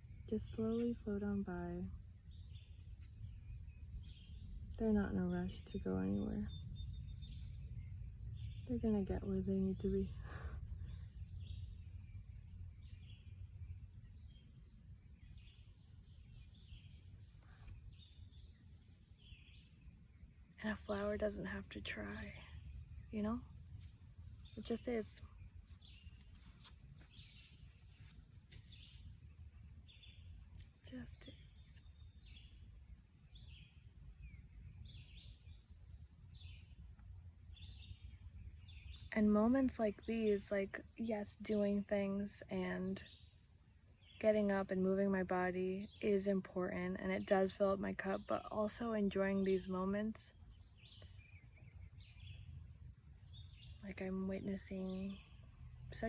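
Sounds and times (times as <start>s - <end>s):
low outdoor rumble: 0.0s - 32.6s, 33.2s - 56.0s
faint bird chirps: 0.0s - 56.0s.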